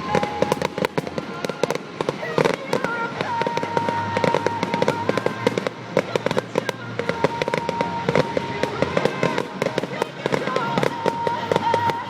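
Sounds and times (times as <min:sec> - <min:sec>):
fireworks crackles and bangs: 0:00.0 - 0:12.0.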